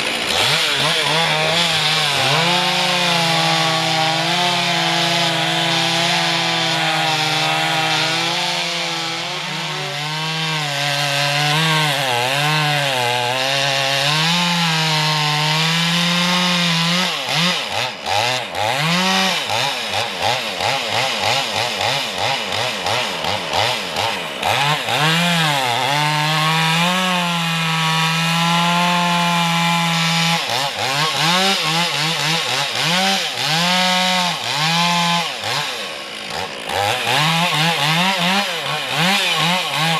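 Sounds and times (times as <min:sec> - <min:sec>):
chainsaw running at high speed: 0:00.0 - 0:39.9.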